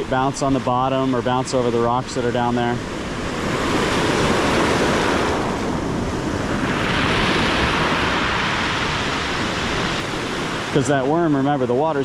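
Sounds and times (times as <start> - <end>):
ocean surf on pebble shore: 0.0 - 12.0.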